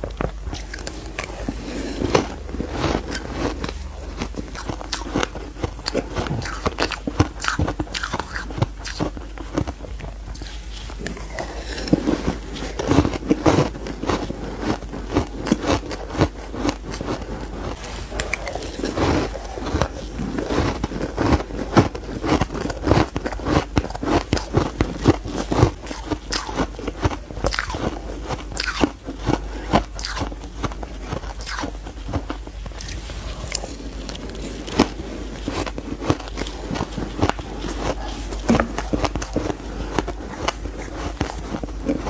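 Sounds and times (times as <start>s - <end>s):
ice crunching while chewed: 0.0s - 42.0s.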